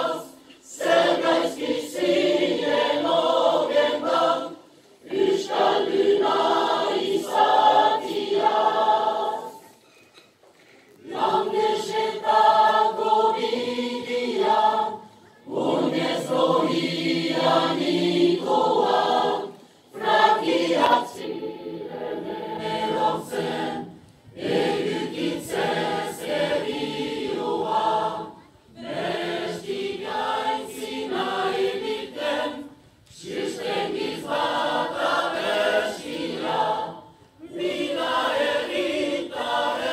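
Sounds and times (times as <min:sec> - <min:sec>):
mixed choir singing unaccompanied: 0:00.0 - 0:09.8, 0:11.0 - 0:39.9.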